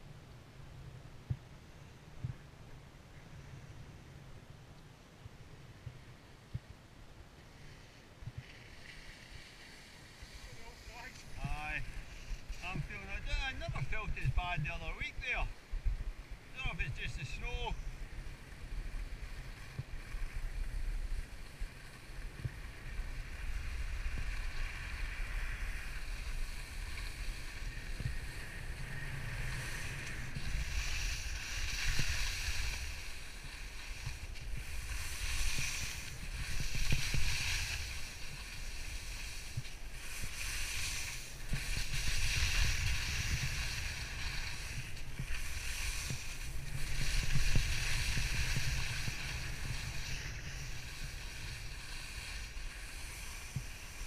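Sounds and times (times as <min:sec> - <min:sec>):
wind rumbling on microphone: 0:00.0 - 0:54.0
skis hissing across snow: 0:07.4 - 0:15.5, 0:16.5 - 0:54.0.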